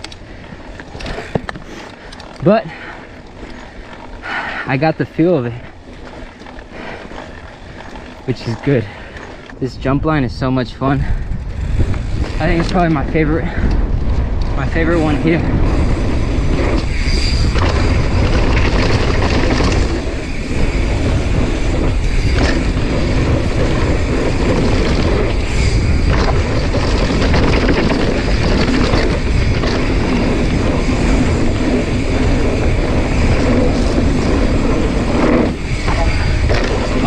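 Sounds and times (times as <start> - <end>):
bike tyres and frame rattling: 0.0 - 37.0
wind rumble on microphone: 5.5 - 37.0.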